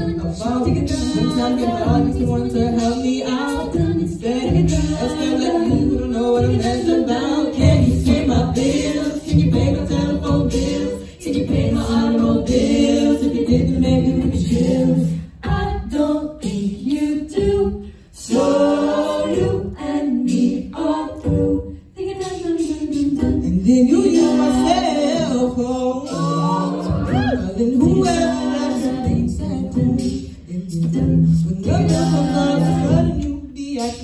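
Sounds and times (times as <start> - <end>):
women singing a cappella: 0.0 - 34.0.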